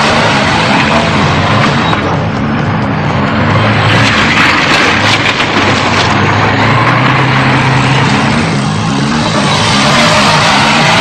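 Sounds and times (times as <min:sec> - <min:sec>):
heavy truck engine running: 0:00.0 - 0:11.0
road noise: 0:00.0 - 0:11.0.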